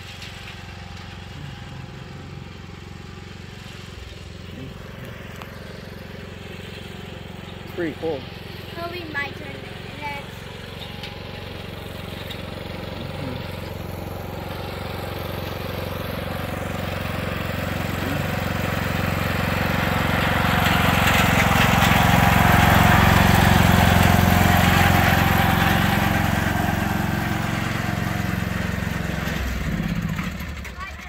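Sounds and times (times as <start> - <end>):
riding lawn mower engine: 0.0 - 31.0.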